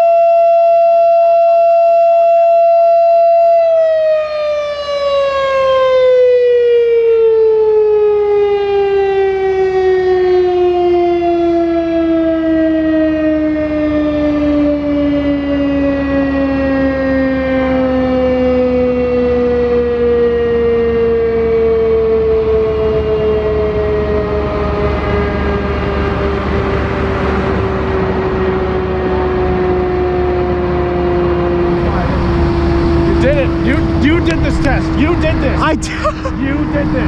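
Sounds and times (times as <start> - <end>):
warning siren winding down: 0.0 - 37.0.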